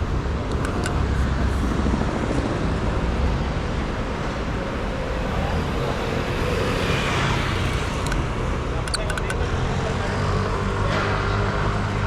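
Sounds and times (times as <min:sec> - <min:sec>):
road traffic going by: 0:00.0 - 0:12.0.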